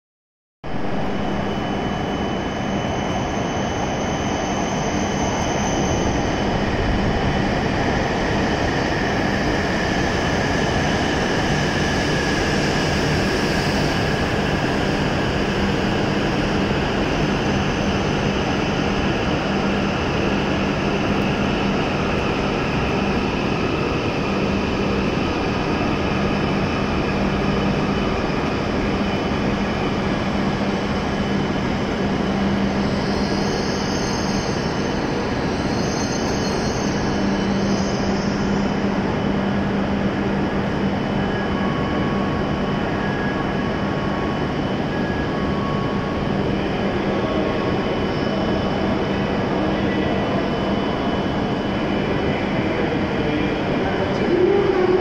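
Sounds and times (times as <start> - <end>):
high steady whine: 0.7 - 55.0.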